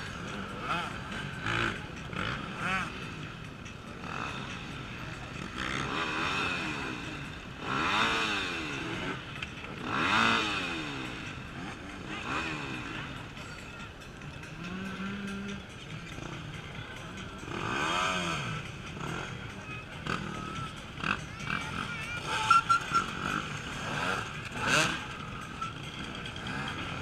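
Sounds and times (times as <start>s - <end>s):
motorcycles revving: 0.0s - 27.0s.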